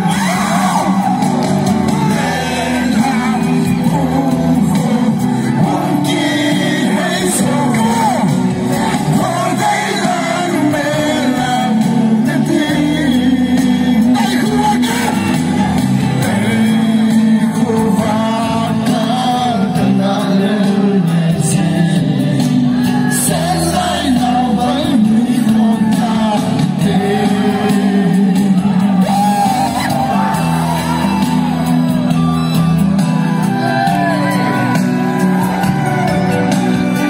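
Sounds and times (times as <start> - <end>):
person singing into microphone: 0.0 - 32.6
backing music over speakers: 0.0 - 37.0
crowd shouting and whooping: 0.0 - 37.0.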